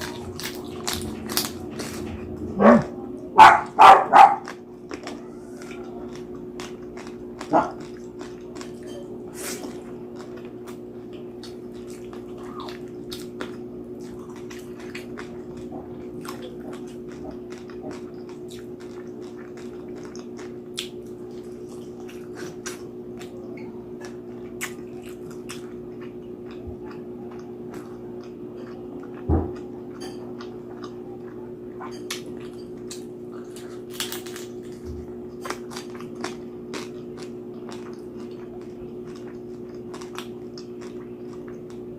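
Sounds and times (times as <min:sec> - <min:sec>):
crunchy chewing and biting: 0:00.0 - 0:41.9
steady low hum: 0:00.0 - 0:41.9.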